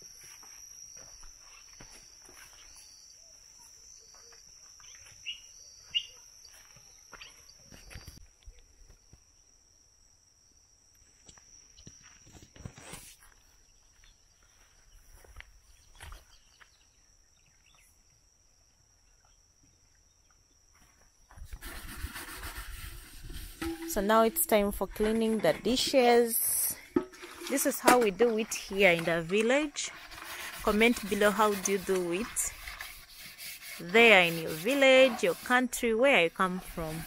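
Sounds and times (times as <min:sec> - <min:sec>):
insect drone: 0:00.0 - 0:36.8.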